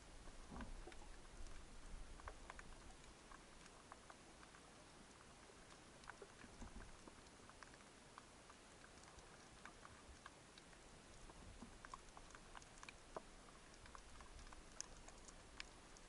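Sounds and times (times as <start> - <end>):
low underwater hiss: 0.0 - 16.0
underwater clicks and crackles: 0.0 - 16.0.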